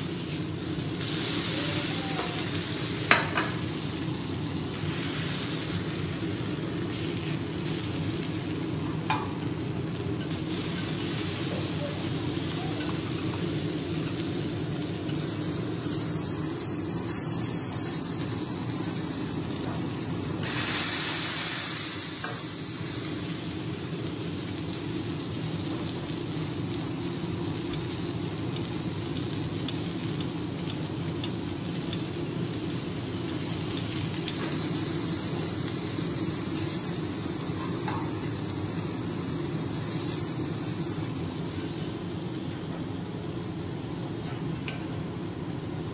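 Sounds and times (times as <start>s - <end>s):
steak sizzling on a griddle: 0.0s - 45.9s.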